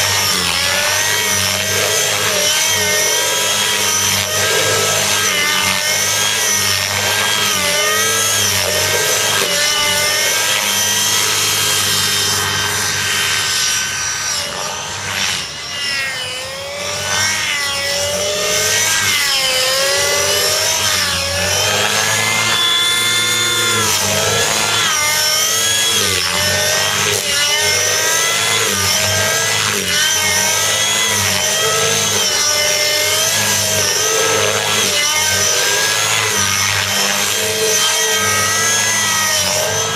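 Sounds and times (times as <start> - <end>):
model helicopter engine screaming: 0.0 - 39.9.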